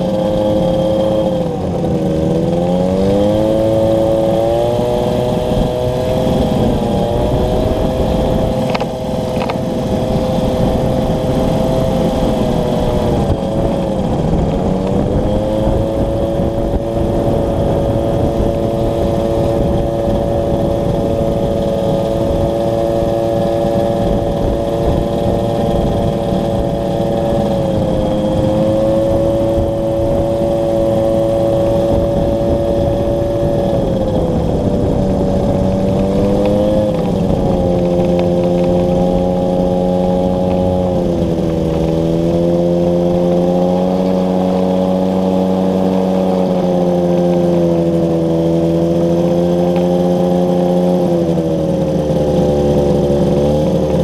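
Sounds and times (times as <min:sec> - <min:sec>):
ultralight engine and propeller running: 0:00.0 - 0:54.0.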